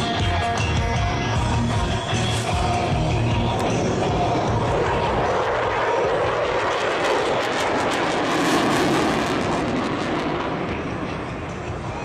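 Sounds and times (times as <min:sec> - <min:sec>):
jet engines roaring overhead: 0:01.3 - 0:12.0.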